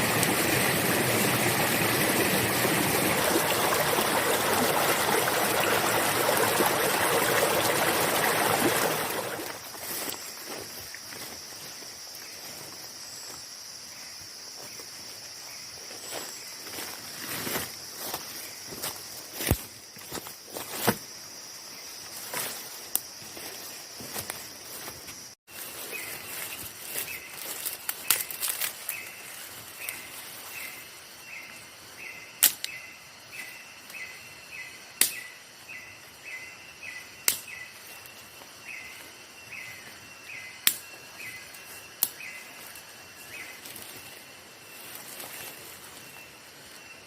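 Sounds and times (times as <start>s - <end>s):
high insect trill: 0.0s - 47.0s.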